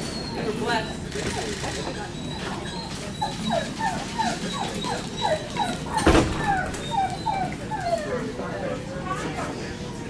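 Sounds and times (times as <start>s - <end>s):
dog whimpering: 0.0s - 8.8s.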